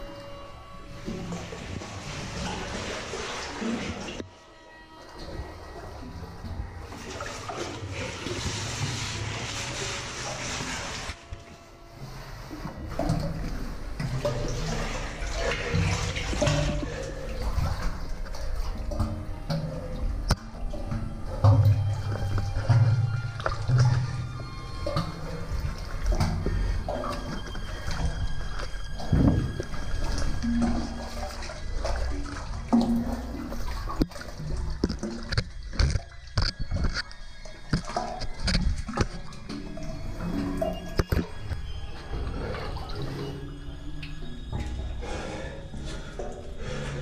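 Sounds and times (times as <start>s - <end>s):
water splashing and gurgling: 0.0s - 47.0s.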